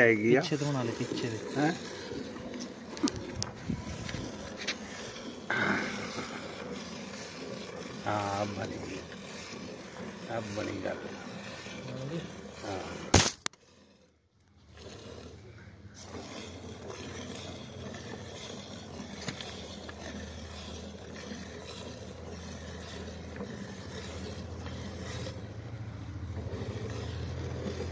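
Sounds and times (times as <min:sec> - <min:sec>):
milk squirting into steel bucket: 0:00.1 - 0:13.6, 0:14.5 - 0:25.6.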